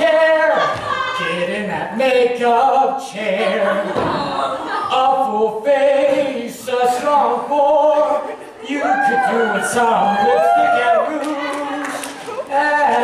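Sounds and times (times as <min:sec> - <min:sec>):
voices singing a cappella: 0:00.0 - 0:13.0.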